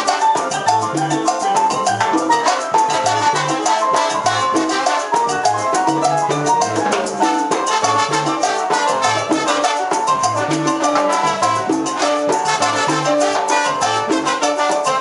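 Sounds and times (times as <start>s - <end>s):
salsa band playing: 0.0s - 15.0s.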